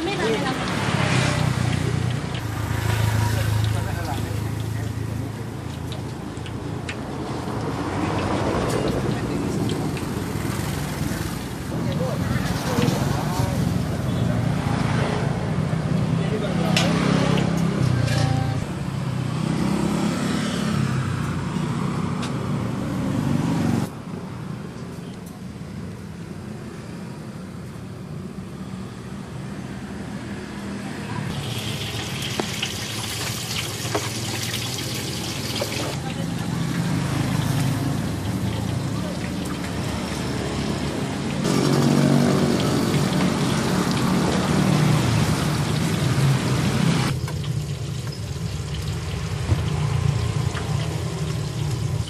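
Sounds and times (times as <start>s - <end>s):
oil deep-frying in a wok: 0.0s - 18.1s, 24.1s - 52.0s
scooter and car engines passing: 0.0s - 23.9s, 28.6s - 52.0s
street traffic hum: 0.0s - 52.0s.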